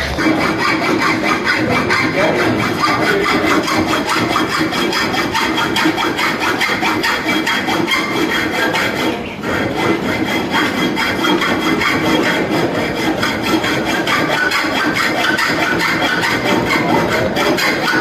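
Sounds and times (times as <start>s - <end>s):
saw cutting: 0.0s - 18.0s.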